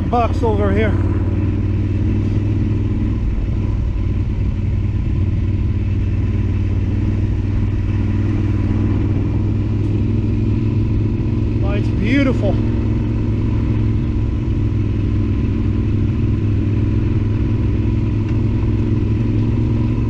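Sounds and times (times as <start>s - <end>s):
motorcycle engine idling steadily: 0.0s - 20.0s.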